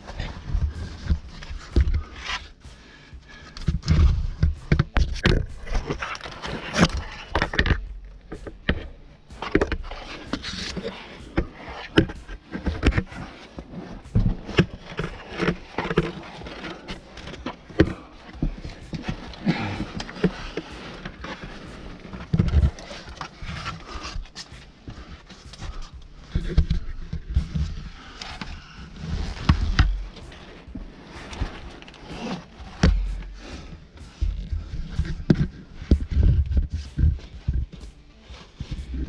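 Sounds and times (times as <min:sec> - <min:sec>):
gear scraping against rock: 0:00.0 - 0:39.0.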